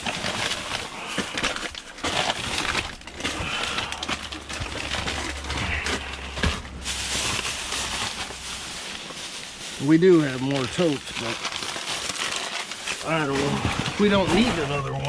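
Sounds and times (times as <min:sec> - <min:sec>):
cardboard rustling: 0:00.0 - 0:15.0
snack packaging crinkling: 0:00.0 - 0:15.0.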